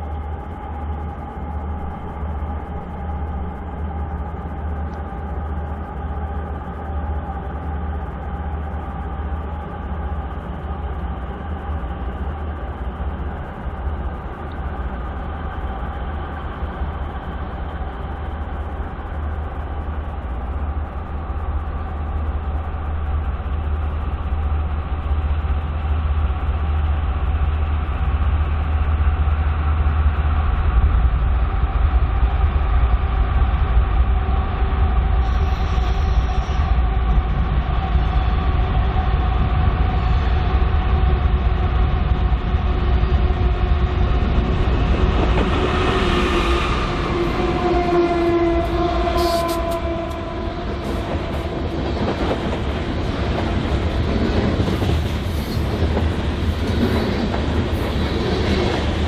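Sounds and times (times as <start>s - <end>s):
faint steady whine: 0.0s - 51.8s
diesel locomotive engine rumble: 0.0s - 59.0s.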